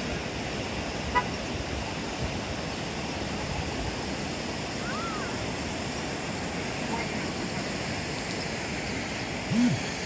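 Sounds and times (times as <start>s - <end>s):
ocean surf: 0.0s - 9.5s
wind: 0.0s - 10.0s.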